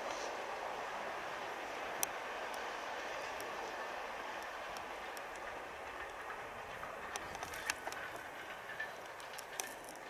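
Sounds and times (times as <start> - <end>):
train wagons rolling: 0.0 - 10.0.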